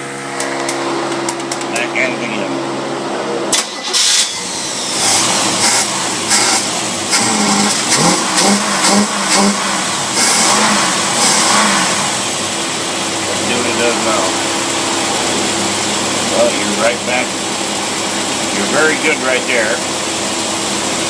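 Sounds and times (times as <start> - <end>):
engine revving in throttle blips: 0.0 - 21.0.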